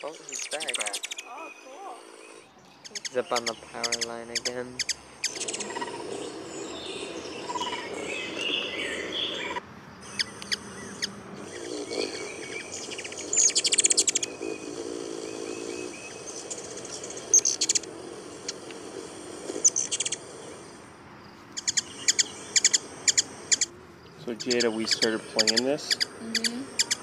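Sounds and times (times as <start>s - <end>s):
hummingbird chattering: 0.0s - 20.9s, 21.6s - 27.0s
birdsong: 0.0s - 27.0s.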